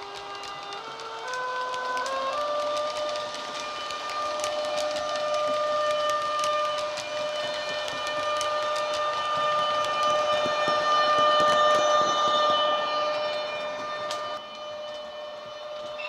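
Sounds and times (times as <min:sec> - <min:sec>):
electric locomotive converter whine: 0:00.0 - 0:16.0.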